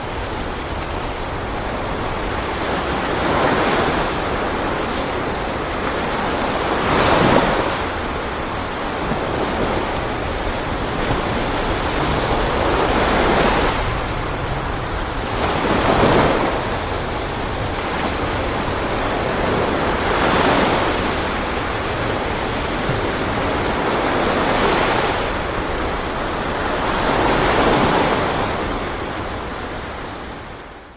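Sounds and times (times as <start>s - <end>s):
sea waves washing: 0.0s - 30.9s
wind: 0.0s - 30.9s.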